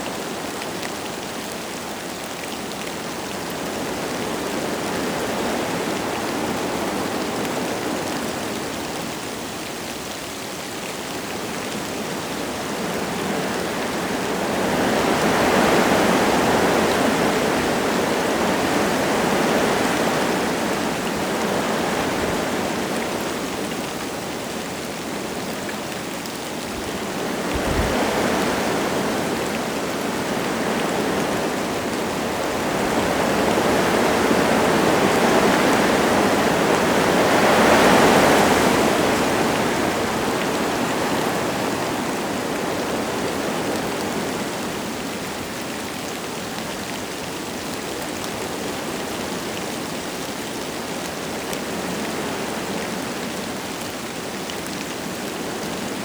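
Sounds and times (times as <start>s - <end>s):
light rain falling: 0.0s - 56.0s
wind gusting through trees: 0.0s - 56.0s.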